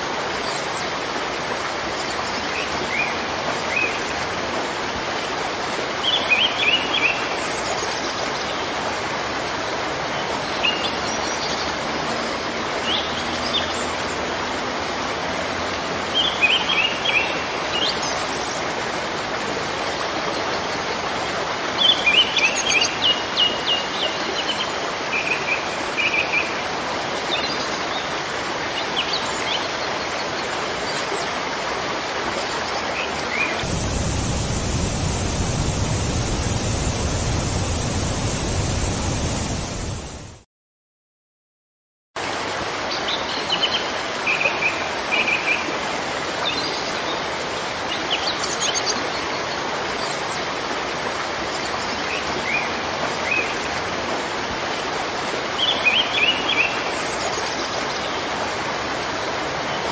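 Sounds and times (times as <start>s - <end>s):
waterfall rushing: 0.0s - 40.4s, 42.2s - 59.9s.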